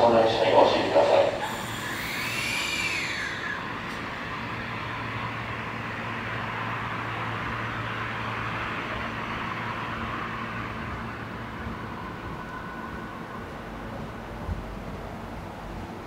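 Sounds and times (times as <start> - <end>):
low electrical hum: 0.0 - 16.0
train rushing noise: 0.0 - 16.0.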